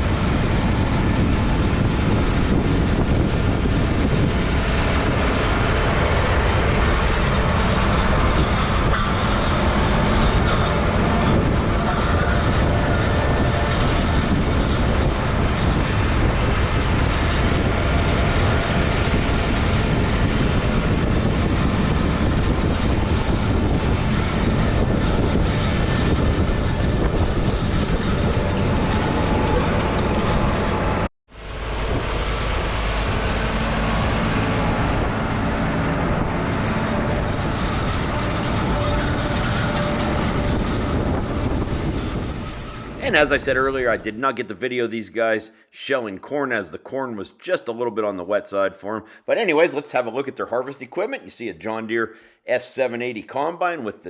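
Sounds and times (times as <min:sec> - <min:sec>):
heavy vehicle engine running: 0:00.0 - 0:44.0.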